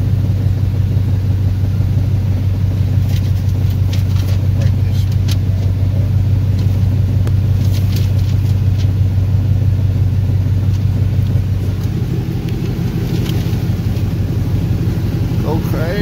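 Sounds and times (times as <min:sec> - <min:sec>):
engine idling with deep rumble: 0:00.0 - 0:16.0.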